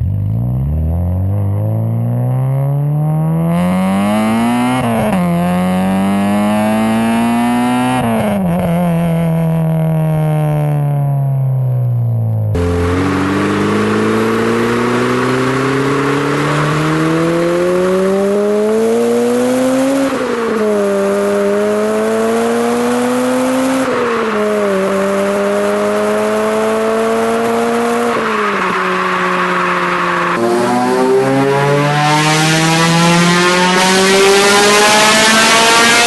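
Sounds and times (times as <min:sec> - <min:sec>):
car engine accelerating hard: 0:00.0 - 0:10.8, 0:12.6 - 0:36.0.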